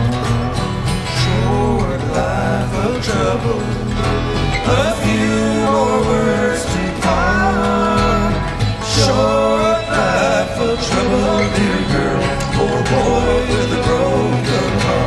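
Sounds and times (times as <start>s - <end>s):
acoustic guitar: 0.0s - 15.0s
person singing: 0.0s - 15.0s.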